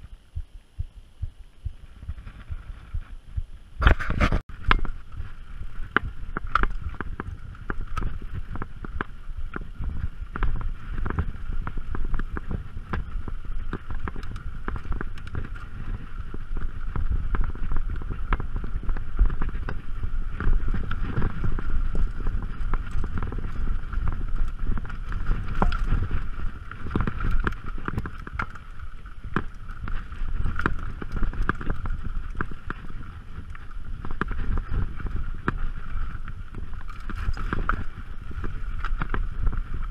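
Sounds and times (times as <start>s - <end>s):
wind rumbling on microphone: 0.0s - 39.9s
bike rattling on rock: 1.9s - 3.2s, 3.8s - 39.9s.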